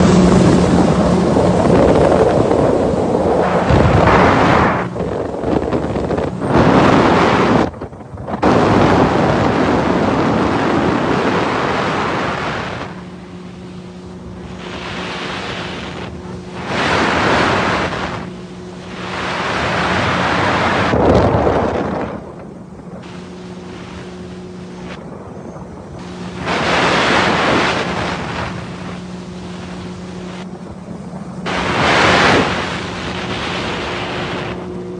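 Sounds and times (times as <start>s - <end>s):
jet ski engine hum: 0.0s - 34.9s
rushing water: 0.0s - 34.9s
wind on microphone: 0.0s - 34.9s.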